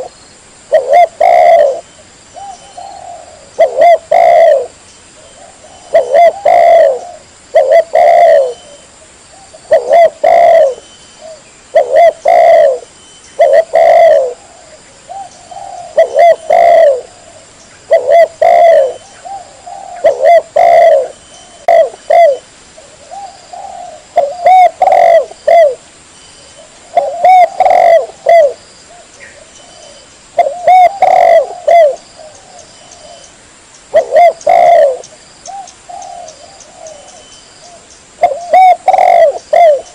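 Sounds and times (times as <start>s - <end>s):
dove cooing: 0.7s - 25.8s, 26.5s - 33.3s, 33.9s - 39.9s.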